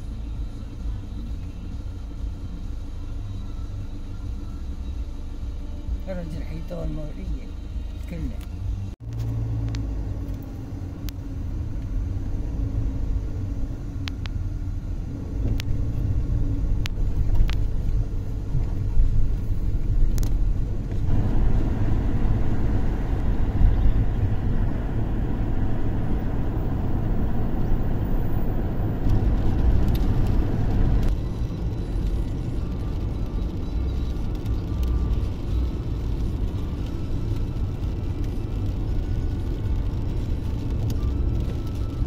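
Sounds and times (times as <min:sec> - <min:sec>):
car engine and road rumble: 0:00.0 - 0:42.0.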